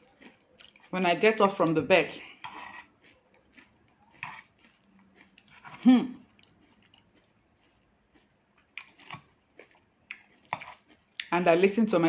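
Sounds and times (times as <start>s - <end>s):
chewing and crunching salad greens: 0.0s - 12.0s.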